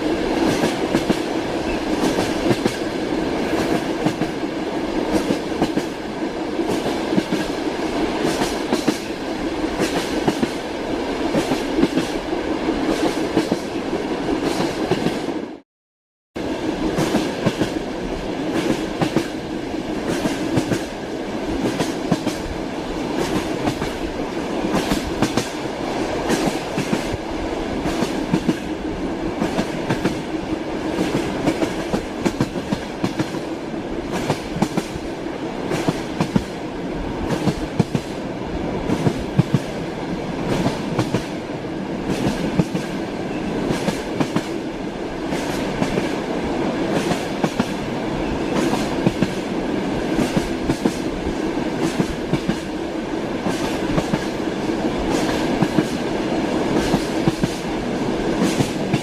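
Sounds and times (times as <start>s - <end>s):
railway carriage rumble: 0.0s - 15.4s, 16.4s - 59.0s.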